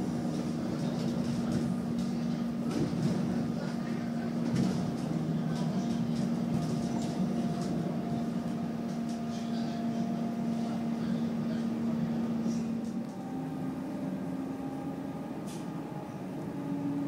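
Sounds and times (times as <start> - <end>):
electric train hum: 0.0 - 17.0
train rumble: 0.0 - 17.0.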